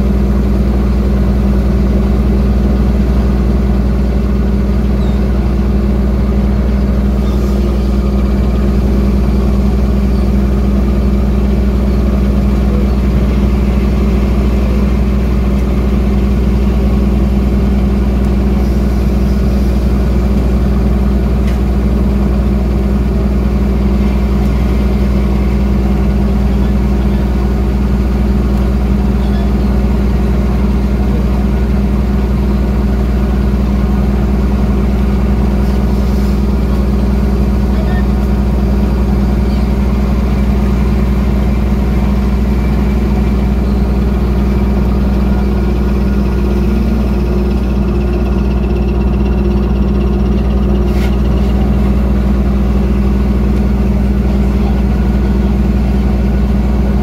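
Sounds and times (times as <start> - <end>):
boat engine deep hum: 0.0 - 57.0.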